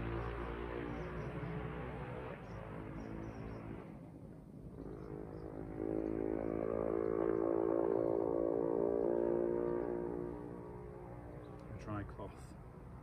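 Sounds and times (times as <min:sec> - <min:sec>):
pitched engine drone: 0:00.0 - 0:04.0, 0:04.7 - 0:13.0.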